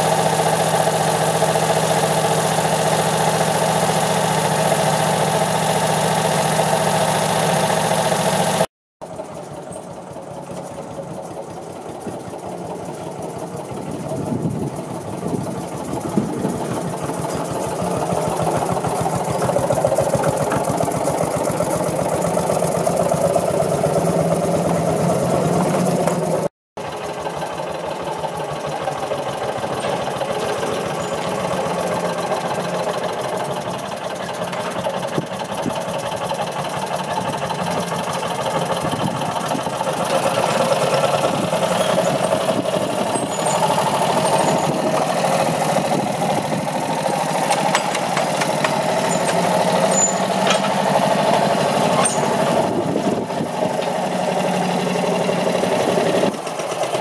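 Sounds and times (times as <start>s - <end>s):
cart engine chugging: 0.0s - 57.0s.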